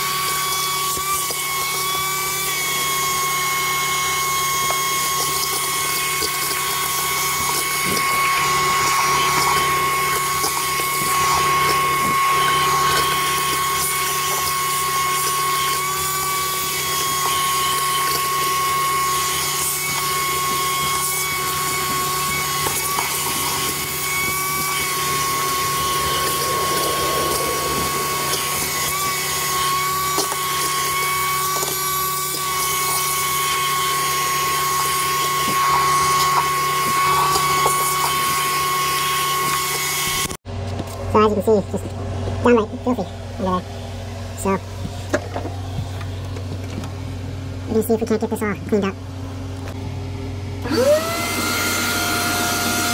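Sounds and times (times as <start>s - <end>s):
shop vacuum whining: 0.0s - 47.8s, 49.0s - 52.9s.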